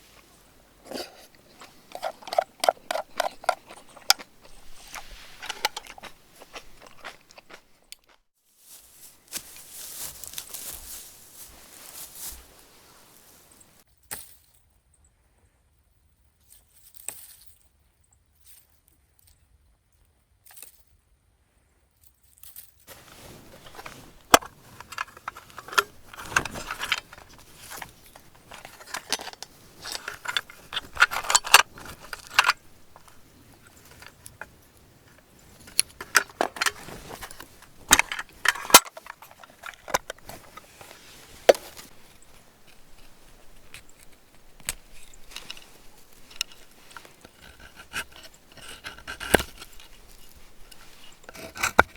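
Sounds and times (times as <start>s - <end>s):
rustling: 0.0s - 8.0s, 8.6s - 13.8s, 22.9s - 51.9s.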